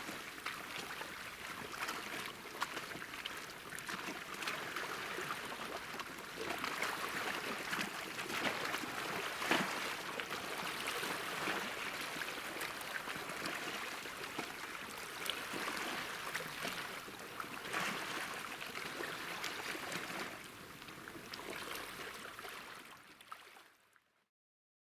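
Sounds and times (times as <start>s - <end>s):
sea waves lapping at shore: 0.0s - 23.7s.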